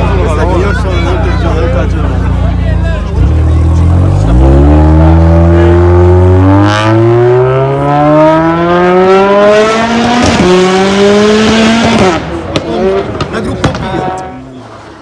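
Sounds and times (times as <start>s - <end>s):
car engine accelerating hard: 1.7s - 14.4s.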